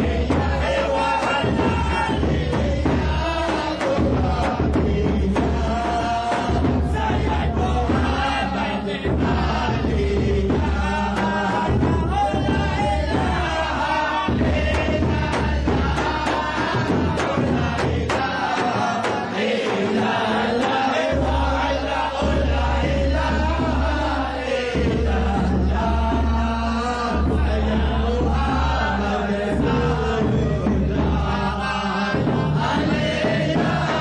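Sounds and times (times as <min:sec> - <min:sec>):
men chanting a devotional song: 0:00.0 - 0:34.0.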